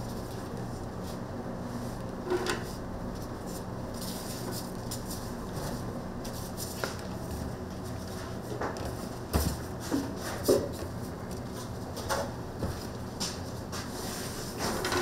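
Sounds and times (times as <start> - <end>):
kitchen background hum: 0.0 - 15.0.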